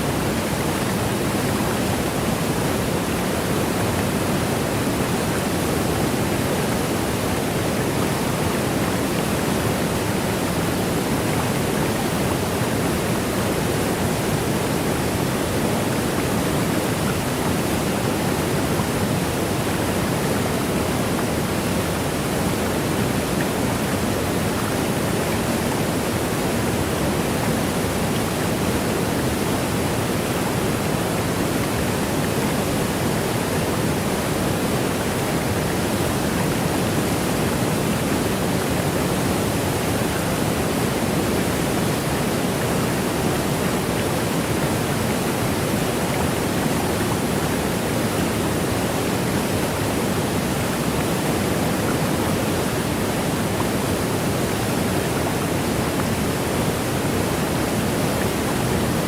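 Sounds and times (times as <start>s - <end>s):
waterfall roar: 0.0s - 59.0s.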